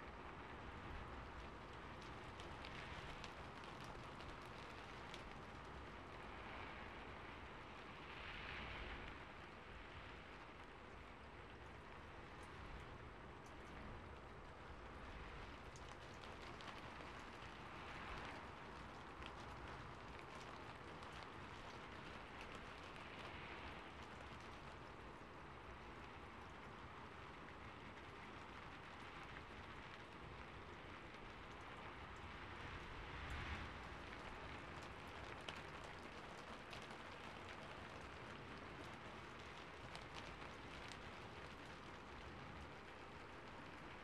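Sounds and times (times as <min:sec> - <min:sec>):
rain on a rooftop: 0:00.0 - 0:44.0.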